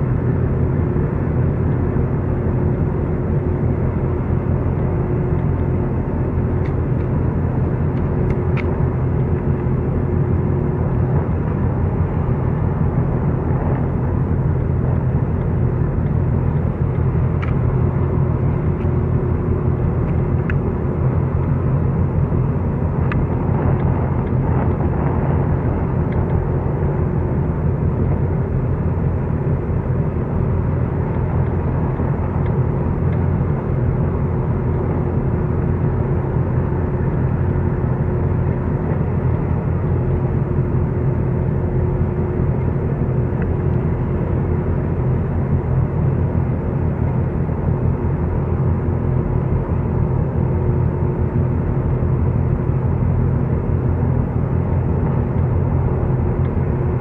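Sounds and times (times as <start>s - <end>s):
diesel machinery rumbling: 0.0s - 57.0s
faint steady hum: 0.0s - 57.0s.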